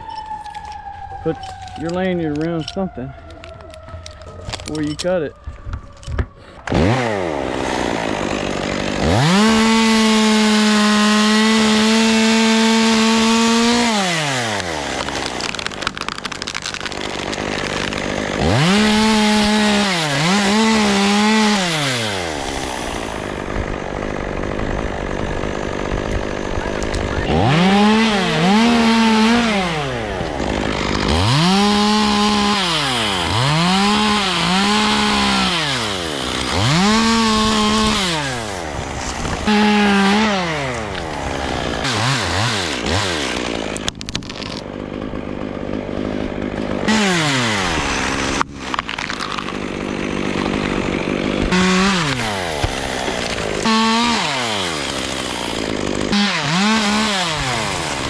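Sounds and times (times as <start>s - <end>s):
chainsaw revving: 6.6s - 58.0s.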